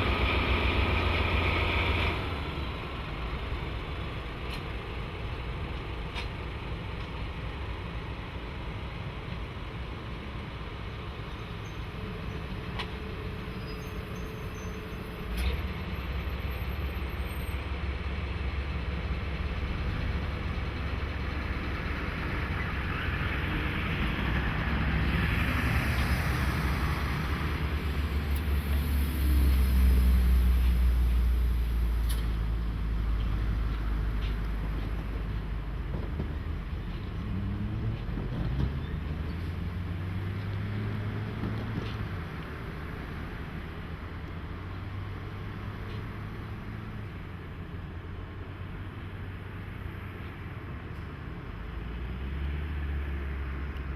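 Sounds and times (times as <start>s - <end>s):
diesel locomotive engine rumble: 0.0s - 53.9s.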